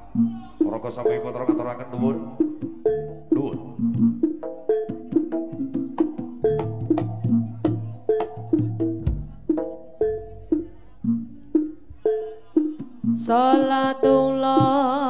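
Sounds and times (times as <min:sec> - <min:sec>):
drum strokes: 0:00.0 - 0:15.0
gamelan percussion: 0:00.0 - 0:15.0.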